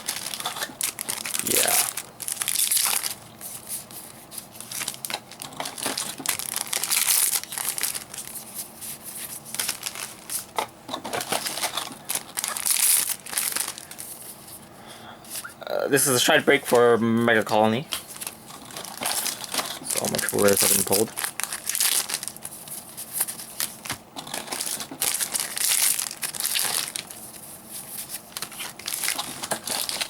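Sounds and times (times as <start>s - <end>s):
foil wrappers crinkling and tearing: 0.0s - 14.6s, 15.3s - 30.0s.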